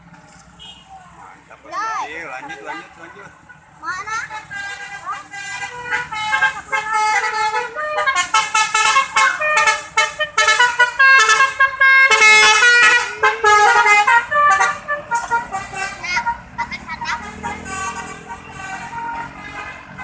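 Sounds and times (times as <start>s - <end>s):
musical bus horn playing a tune: 2.3s - 20.0s.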